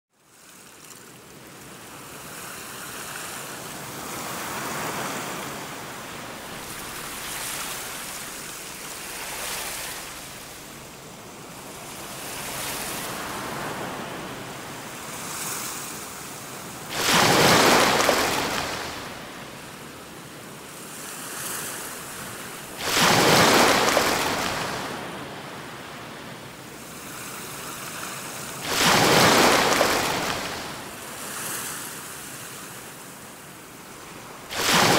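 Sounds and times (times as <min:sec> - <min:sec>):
heavy waves crashing: 0:03.8 - 0:32.9, 0:33.7 - 0:34.9
ocean surf rushing: 0:04.0 - 0:27.6, 0:28.2 - 0:31.9, 0:33.9 - 0:34.9.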